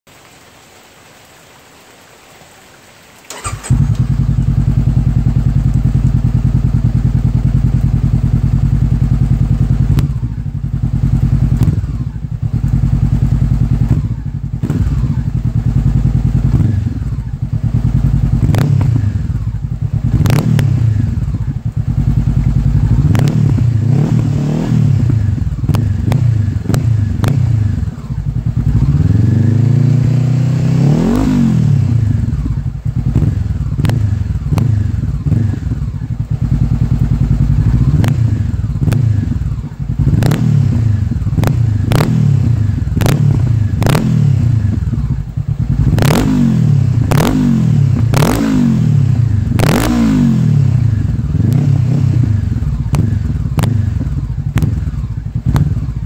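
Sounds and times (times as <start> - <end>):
exhaust cracks: 3.3 - 30.2, 31.9 - 56.0
motorcycle engine idling and revving: 3.3 - 56.0.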